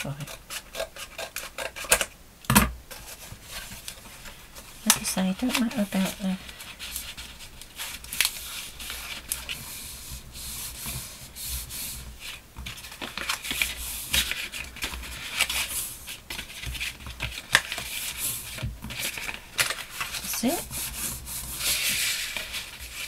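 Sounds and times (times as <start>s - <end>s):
paper rustling and folding: 2.9s - 23.0s
paper creasing crackles: 3.0s - 23.0s.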